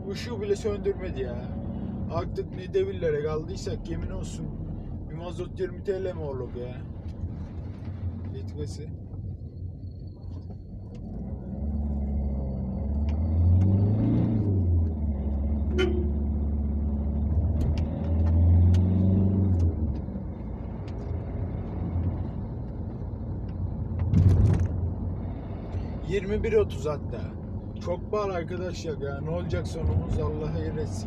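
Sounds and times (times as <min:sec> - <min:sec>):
diesel engine accelerating: 0:00.0 - 0:31.0.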